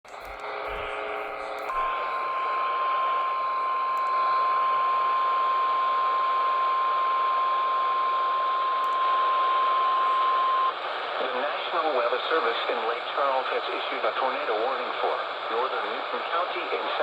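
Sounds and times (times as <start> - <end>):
radio hiss: 0.1 - 17.0.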